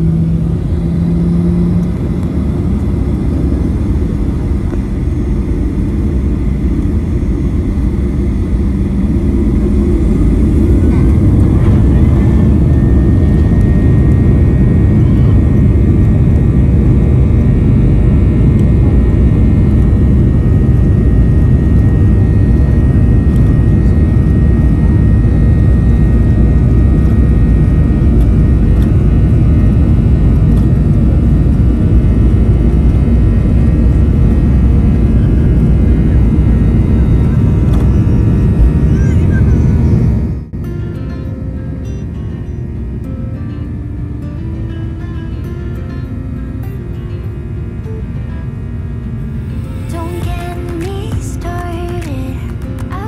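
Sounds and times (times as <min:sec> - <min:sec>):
faint high whine: 0:00.0 - 0:53.0
jet engine cabin rumble: 0:00.0 - 0:53.0.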